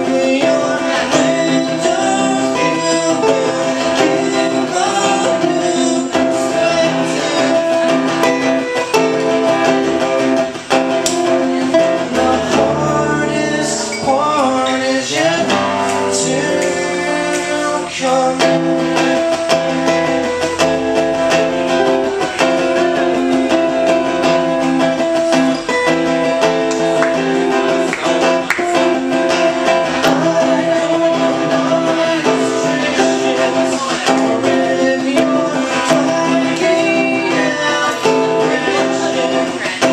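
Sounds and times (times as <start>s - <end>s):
acoustic guitars strummed: 0.0s - 39.9s
man singing: 0.0s - 39.9s.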